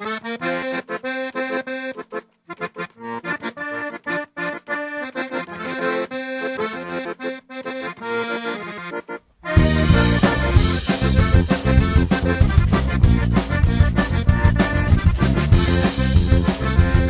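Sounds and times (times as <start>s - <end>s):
accordion playing zydeco tune: 0.0s - 17.0s.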